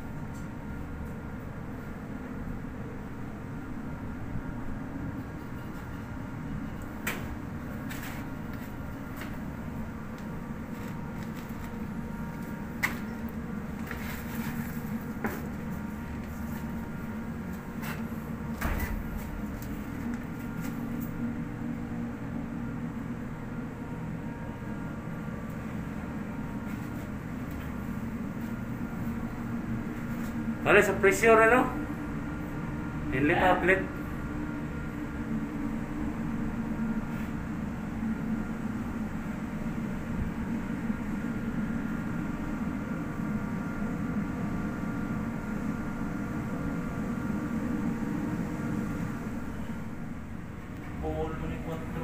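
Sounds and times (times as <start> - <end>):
low machinery drone: 0.0 - 52.0.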